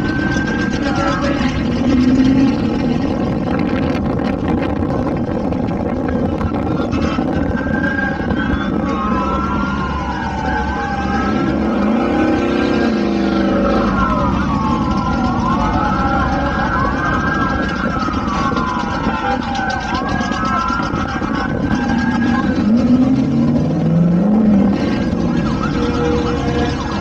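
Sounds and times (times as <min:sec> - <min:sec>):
car engines running: 0:00.0 - 0:27.0.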